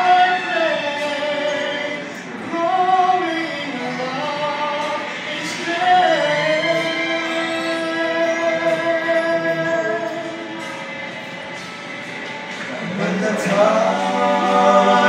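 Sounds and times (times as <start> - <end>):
voices singing gospel song: 0.0 - 15.0.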